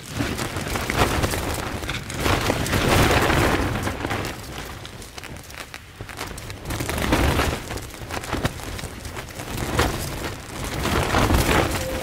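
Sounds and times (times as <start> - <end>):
tent fabric flapping: 0.0 - 12.0
wind rumble on microphone: 0.0 - 12.0.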